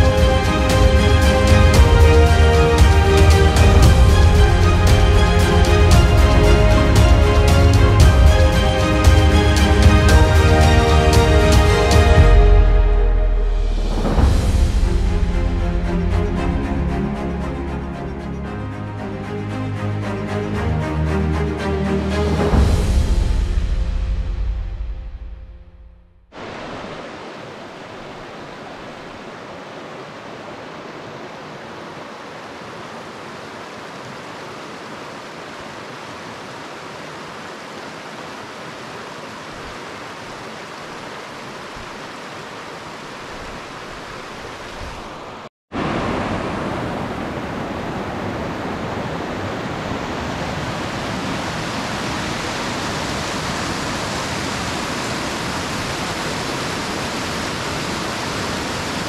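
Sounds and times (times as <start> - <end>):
fast-flowing water rushing: 0.0 - 23.1, 26.3 - 59.0.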